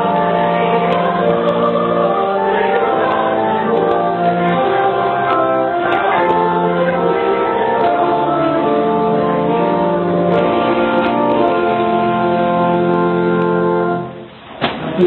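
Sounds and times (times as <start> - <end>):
pipe organ chords: 0.0 - 14.4.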